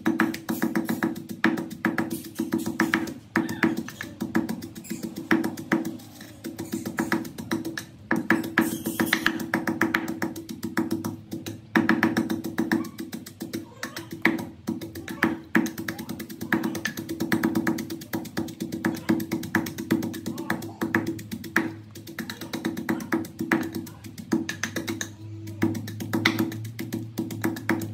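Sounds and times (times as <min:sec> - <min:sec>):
pestle pounding in a mortar: 0:00.0 - 0:27.9.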